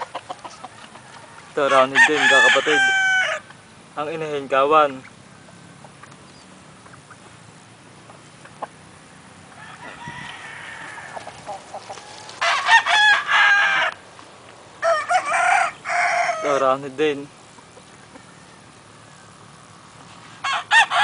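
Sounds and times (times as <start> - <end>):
roosters crowing: 0.0 - 6.0, 6.6 - 21.0.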